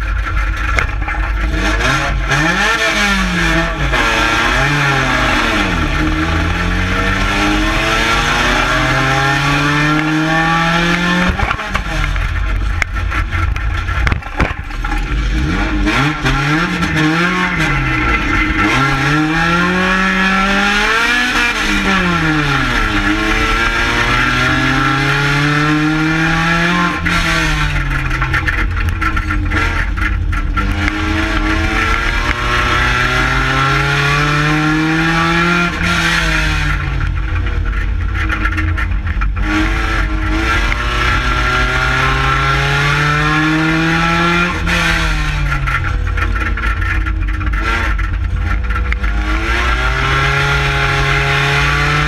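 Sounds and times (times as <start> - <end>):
car engine revving: 0.0 - 52.0.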